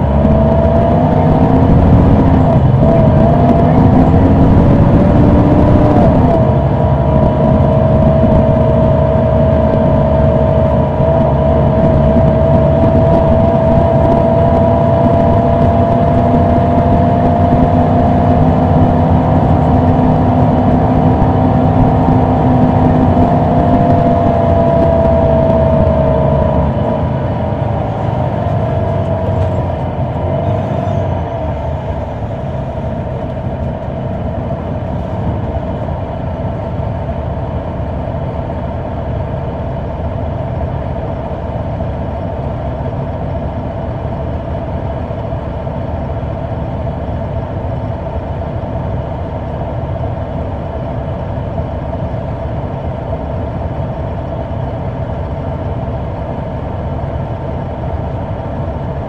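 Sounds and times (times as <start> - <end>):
bus diesel engine rumble: 0.0 - 59.0
steady high whine: 0.0 - 59.0.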